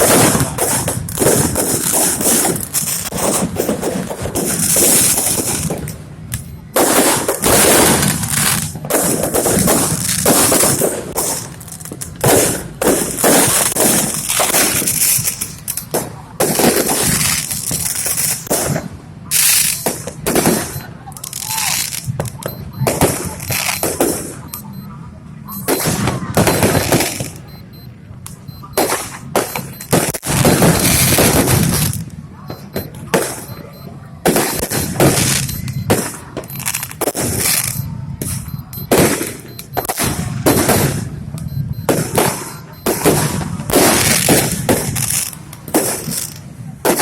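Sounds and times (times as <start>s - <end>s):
fireworks and firecrackers banging: 0.0s - 47.0s.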